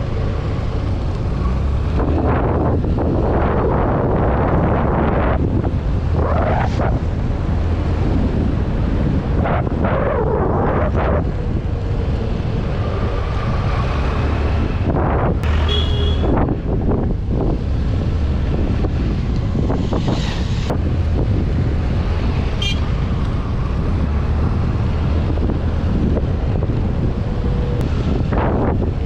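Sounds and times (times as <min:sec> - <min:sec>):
vehicle engine rumble: 0:00.0 - 0:29.0
wind rushing over microphone: 0:00.0 - 0:29.0.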